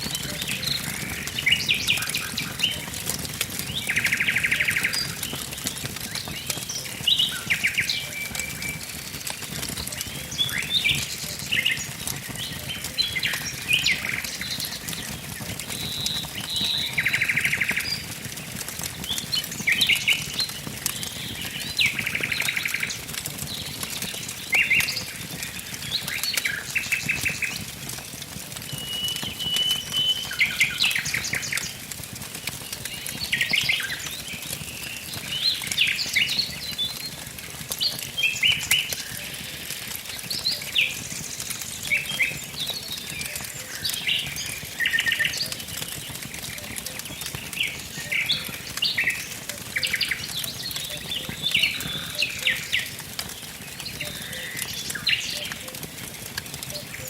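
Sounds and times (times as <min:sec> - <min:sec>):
songbirds chirping: 0:00.0 - 0:57.0
wood fire crackling: 0:00.0 - 0:57.0.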